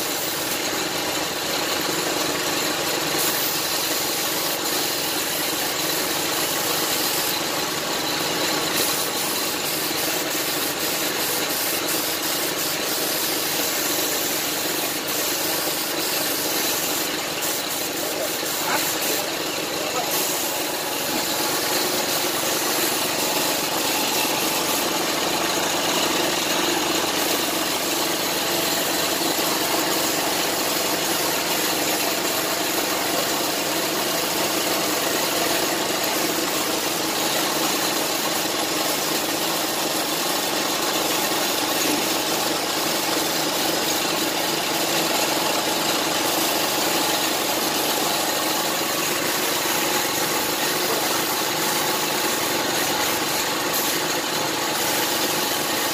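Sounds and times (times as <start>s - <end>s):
air compressor running: 0.0s - 55.9s
spray gun hissing: 0.0s - 55.9s.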